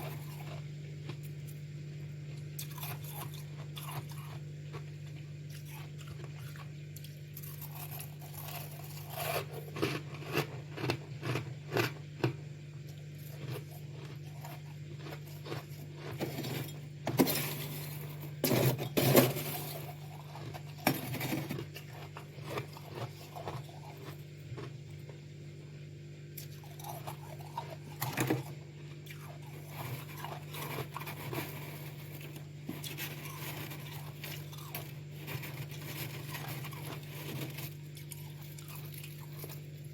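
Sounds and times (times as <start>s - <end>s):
steady low hum: 0.0s - 39.9s
crunching frost: 2.2s - 25.2s, 26.4s - 39.9s.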